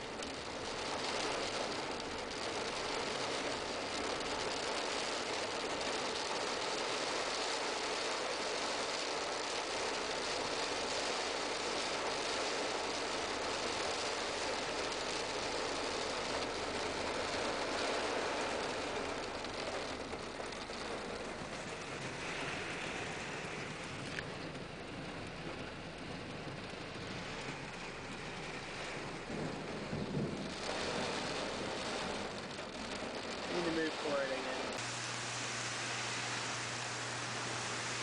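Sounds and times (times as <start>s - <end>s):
heavy rain on a car roof: 0.0s - 38.0s.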